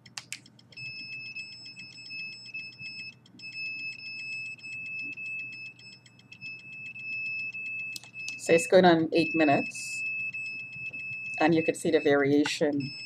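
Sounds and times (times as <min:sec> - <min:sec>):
high-pitched meter tone with clicking: 0:00.0 - 0:13.0.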